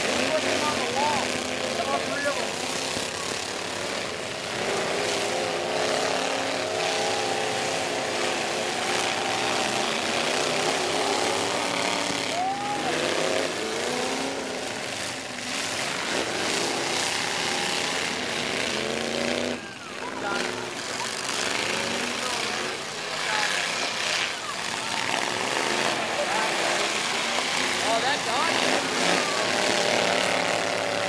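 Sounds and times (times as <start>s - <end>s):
truck engines revving: 0.0s - 31.0s.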